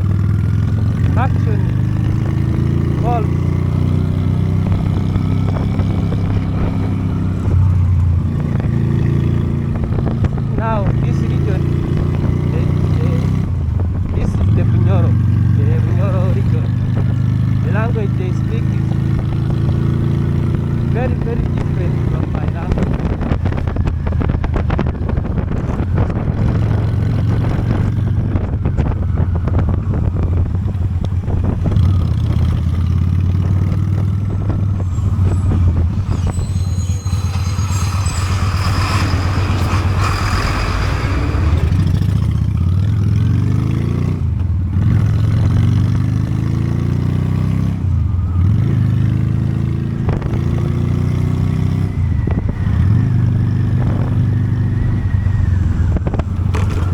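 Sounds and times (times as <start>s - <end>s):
motorcycle engine: 0.0s - 56.9s.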